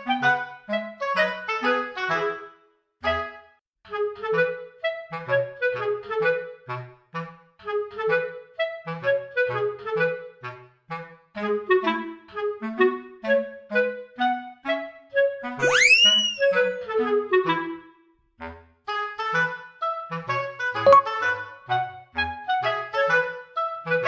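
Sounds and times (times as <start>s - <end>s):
bouncy woodwind melody: 0.0s - 24.0s.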